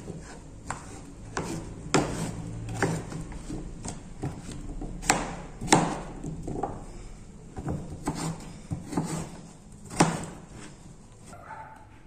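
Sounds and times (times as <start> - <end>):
knife chopping on plastic board: 0.0 - 6.9, 7.5 - 10.5.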